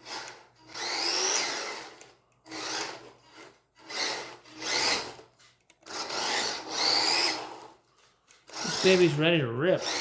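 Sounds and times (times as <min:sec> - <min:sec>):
toy truck electric motor whining: 0:00.0 - 0:10.0.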